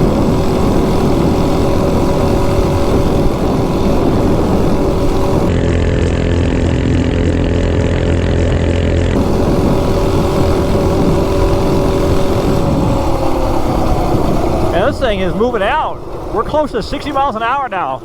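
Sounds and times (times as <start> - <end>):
minibike engine at high revs: 0.0 - 18.0
wind rushing over microphone: 0.0 - 18.0.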